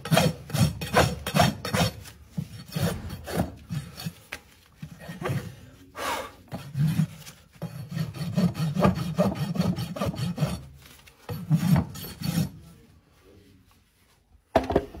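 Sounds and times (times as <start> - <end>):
rasp scraping a hoof: 0.0 - 12.8.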